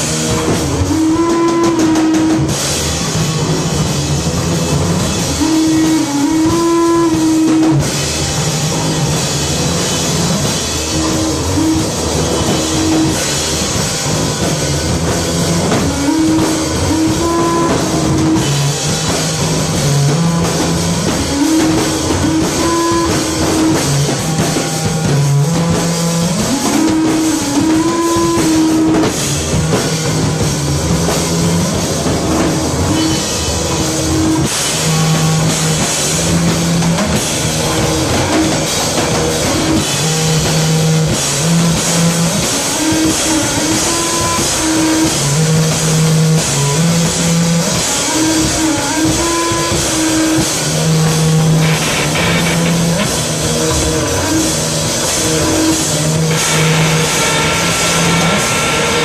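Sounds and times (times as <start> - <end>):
cymbal wash: 0.0 - 59.0
live rock band playing: 0.0 - 59.0.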